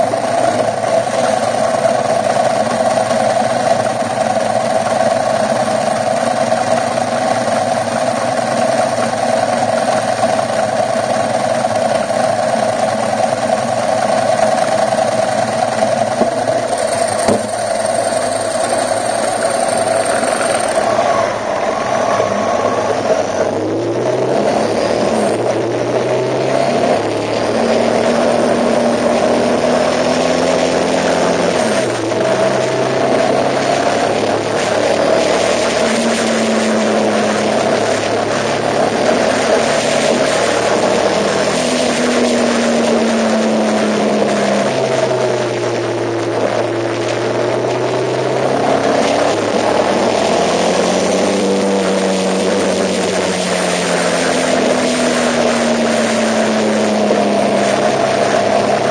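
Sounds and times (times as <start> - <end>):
vehicle engine running: 0.0 - 58.9
wind and road noise: 0.0 - 58.9.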